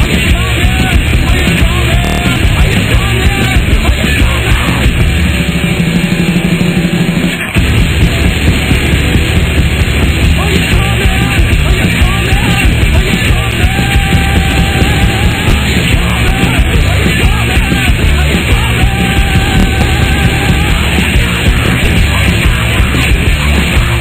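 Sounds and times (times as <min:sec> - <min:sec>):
punk rock band playing: 0:00.0 - 0:24.0.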